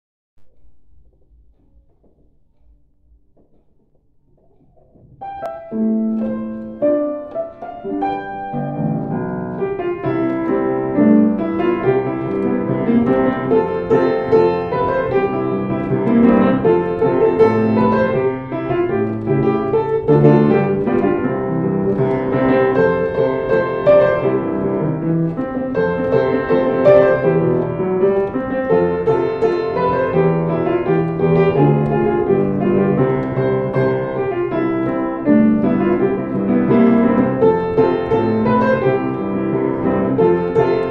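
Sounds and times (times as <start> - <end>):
piano playing chords and melody: 5.0 - 40.9.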